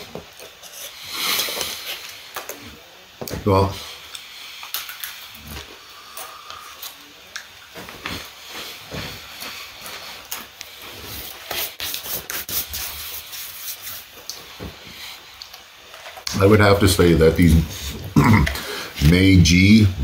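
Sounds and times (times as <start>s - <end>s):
biscuits crunching and rustling: 0.0s - 20.0s.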